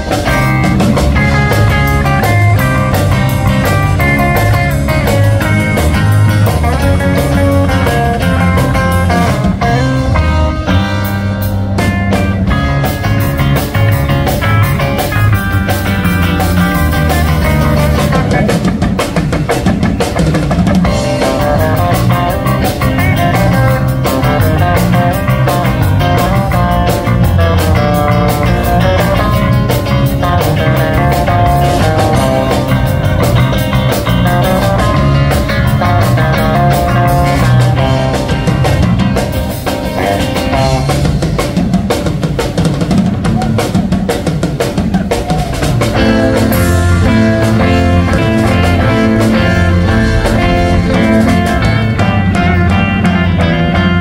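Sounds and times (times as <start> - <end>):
drum kit: 0.0 - 54.0
electric bass: 0.0 - 54.0
electric guitars: 0.0 - 54.0.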